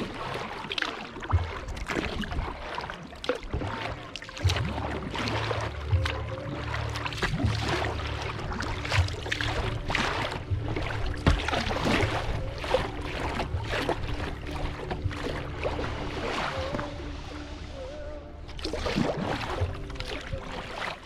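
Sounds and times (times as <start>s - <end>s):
kayak paddle splashing: 0.0s - 21.0s
water sloshing around hull: 0.0s - 21.0s.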